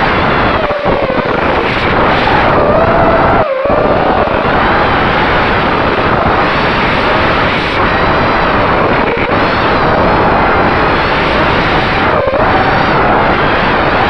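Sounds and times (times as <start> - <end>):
drone motors whining: 0.0 - 14.0
wind noise on microphone: 0.0 - 14.0.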